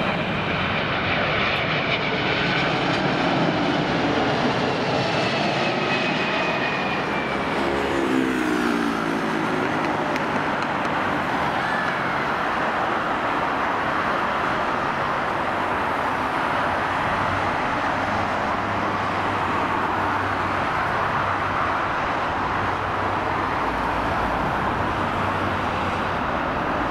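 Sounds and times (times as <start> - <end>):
jet engines rushing: 0.0 - 26.9.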